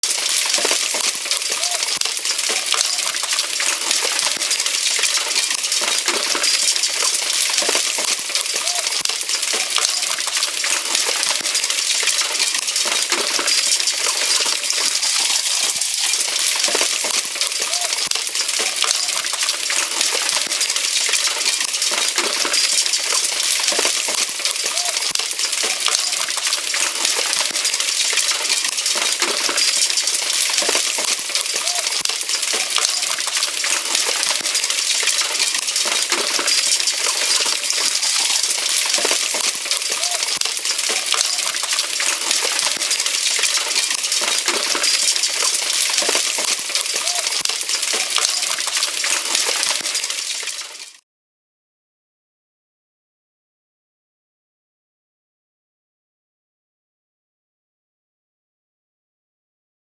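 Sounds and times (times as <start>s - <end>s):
hailstones clattering: 0.0s - 51.0s.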